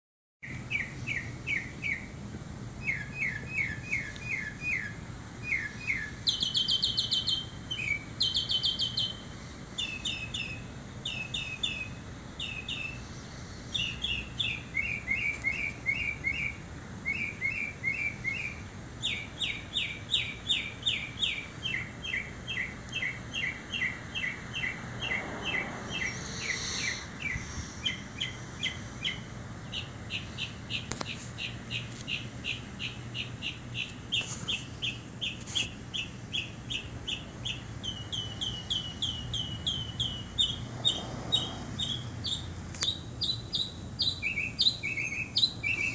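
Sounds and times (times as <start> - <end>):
bird singing rapid chirps: 0.4 - 2.2, 2.8 - 45.9
low background noise: 0.4 - 45.9.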